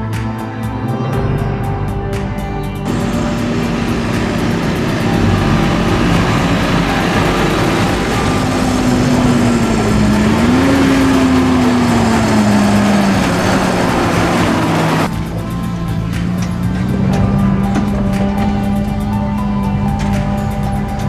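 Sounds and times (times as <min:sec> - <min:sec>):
diesel engine running: 0:02.9 - 0:21.0.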